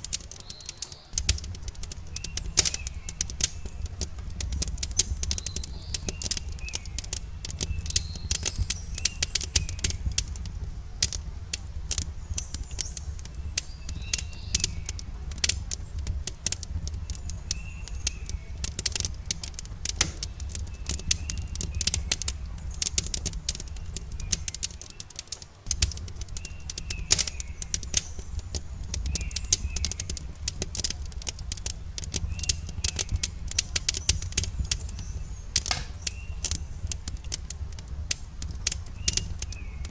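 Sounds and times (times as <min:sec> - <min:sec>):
campfire crackling and popping: 0:00.0 - 0:39.9
small birds chirping: 0:00.0 - 0:39.9.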